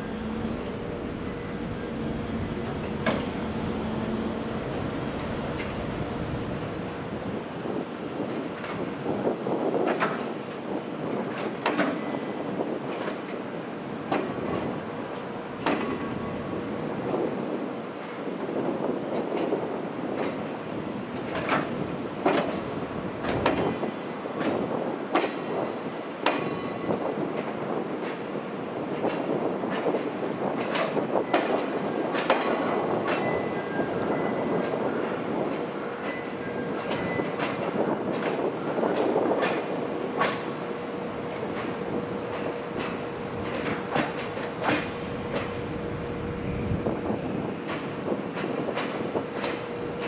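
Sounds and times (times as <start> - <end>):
freight train rumbling: 0.0 - 50.0.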